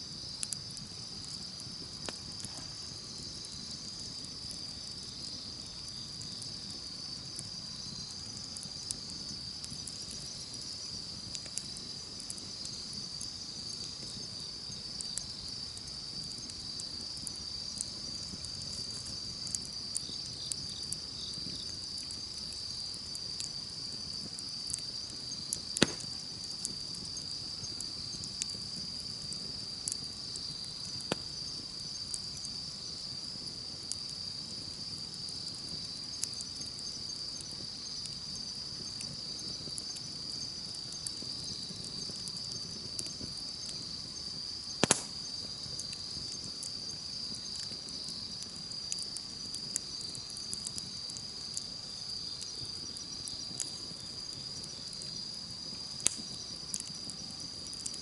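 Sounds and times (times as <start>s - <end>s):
campfire wood crackling: 0.0s - 58.0s
insects chirping: 0.0s - 58.0s.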